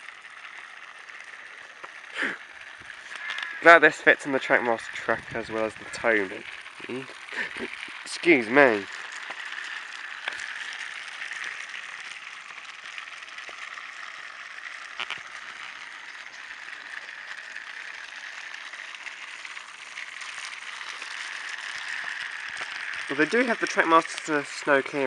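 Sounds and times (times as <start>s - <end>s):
toy train motor whirring: 0.0s - 25.0s.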